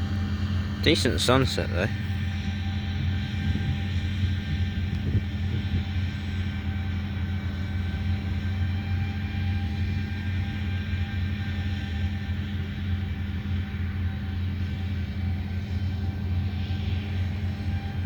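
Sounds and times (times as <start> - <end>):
faint steady whines: 0.0 - 18.0
farm machinery engine droning: 0.0 - 18.0.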